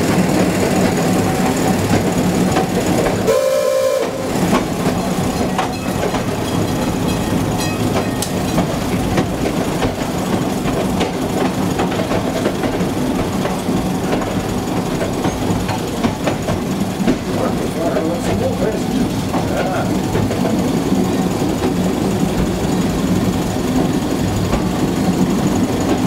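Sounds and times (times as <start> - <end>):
railcar engine hum: 0.0 - 26.0
wheels knocking over rail joints: 4.4 - 26.0.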